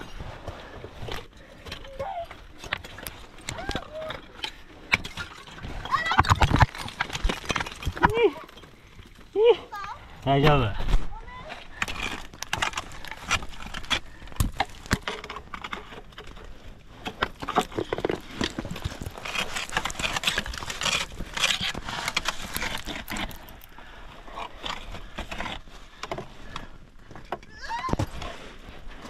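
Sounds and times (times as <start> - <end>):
climbing gear clinking on rock: 0.8 - 10.4, 11.4 - 28.3.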